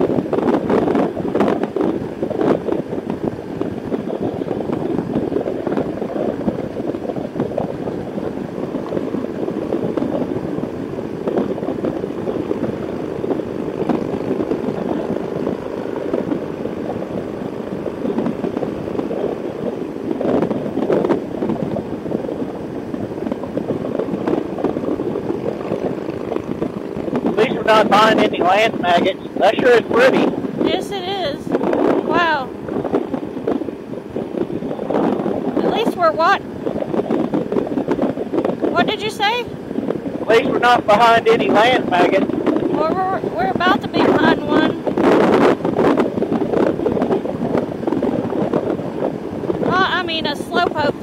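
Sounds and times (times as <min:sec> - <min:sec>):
motorcycle engine running: 0:00.0 - 0:51.0
wind rush on microphone: 0:00.0 - 0:51.0.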